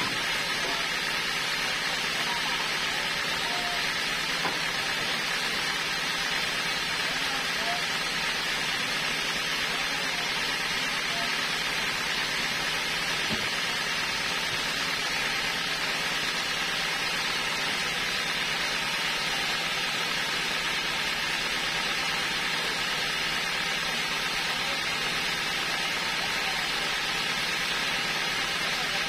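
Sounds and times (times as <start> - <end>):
sawmill machinery running: 0.0 - 29.0.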